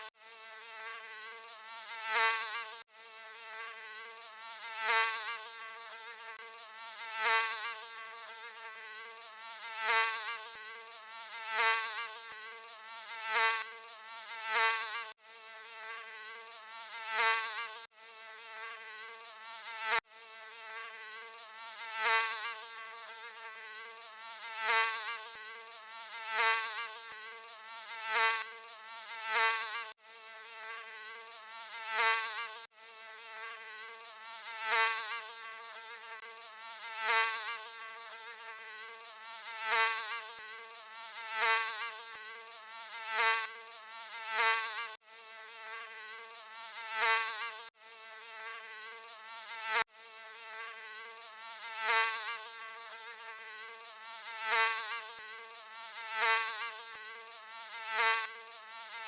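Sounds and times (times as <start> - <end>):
mosquito buzzing: 0.0 - 59.0.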